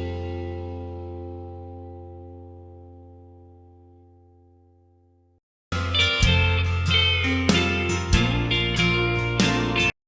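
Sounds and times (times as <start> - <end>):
country song chord ringing: 0.0 - 9.9.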